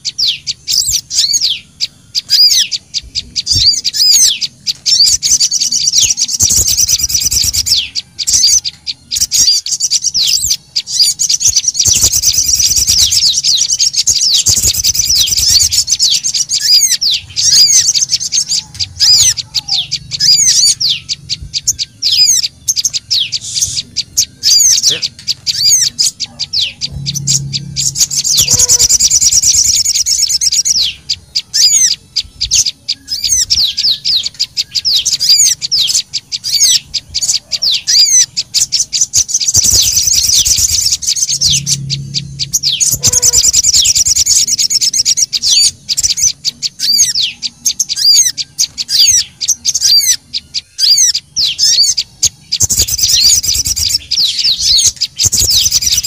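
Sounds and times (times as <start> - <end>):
small songbirds chirping and trilling: 0.0 - 56.0.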